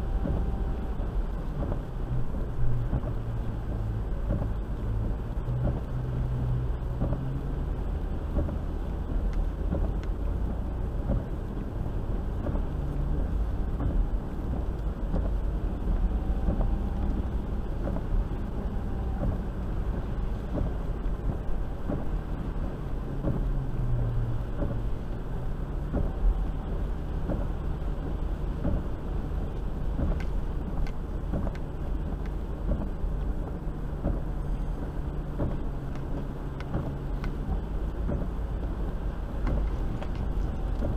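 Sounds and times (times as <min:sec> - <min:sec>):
engine and tyres rumbling: 0:00.0 - 0:40.9.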